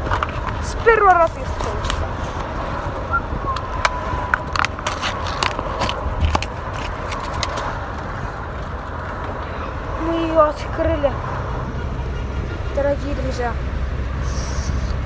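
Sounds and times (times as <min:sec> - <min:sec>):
low car cabin rumble: 0:00.0 - 0:15.0.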